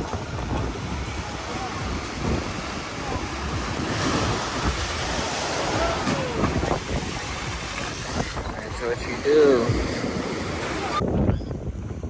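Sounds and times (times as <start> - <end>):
ocean waves washing ashore: 0.0 - 11.0
wind buffeting microphone: 0.0 - 12.0.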